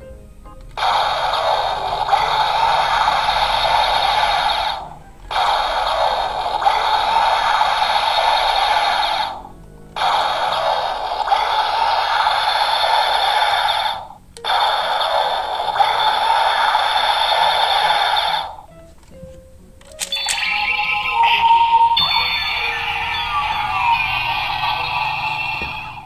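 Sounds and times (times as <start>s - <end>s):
toy electronic music and effects: 0.8s - 9.4s, 10.0s - 18.6s, 20.0s - 26.0s.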